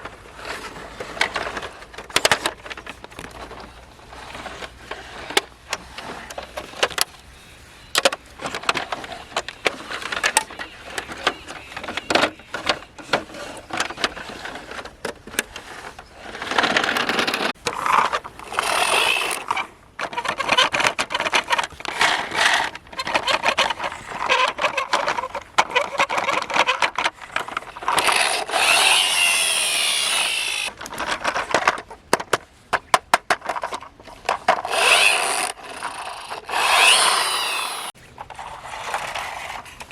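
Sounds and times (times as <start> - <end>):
scraping or rubbing: 0.0 - 31.7, 33.5 - 39.9
toy vehicles clicking and knocking: 0.0 - 39.9.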